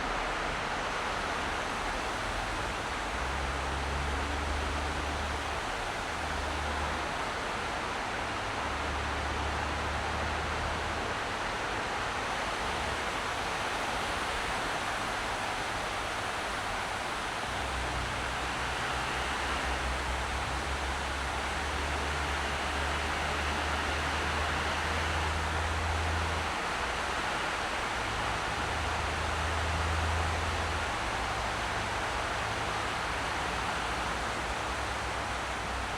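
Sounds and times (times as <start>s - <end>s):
road and tyre noise: 0.0s - 35.9s.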